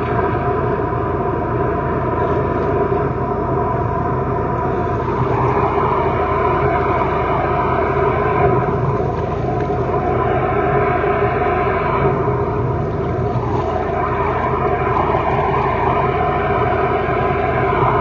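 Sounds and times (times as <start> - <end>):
drain jetter water jet blasting: 0.0 - 18.0.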